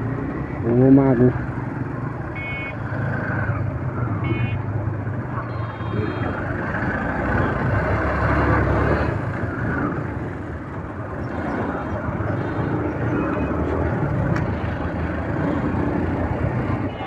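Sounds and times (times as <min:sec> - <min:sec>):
motorcycle engine: 0:00.0 - 0:17.0
road traffic rumble: 0:00.0 - 0:17.0.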